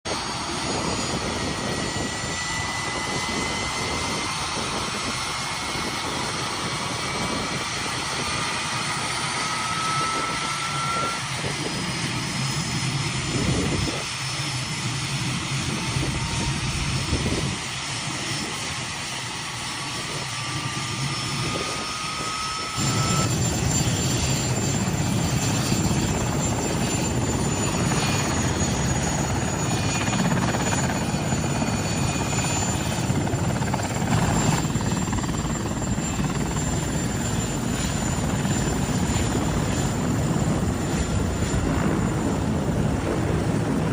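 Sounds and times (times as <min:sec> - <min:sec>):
helicopter engine and rotors: 0:00.0 - 0:43.9.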